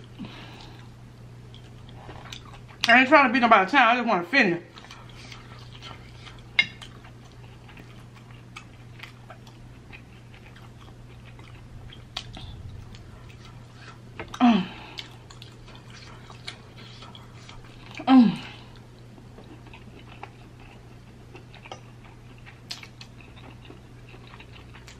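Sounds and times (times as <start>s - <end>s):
person chewing: 0.0s - 2.9s, 4.7s - 24.9s
steady low hum: 0.0s - 24.9s.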